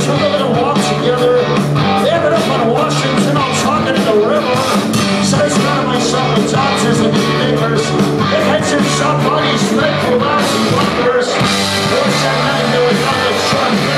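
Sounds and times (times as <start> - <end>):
live rock band playing: 0.0 - 13.9.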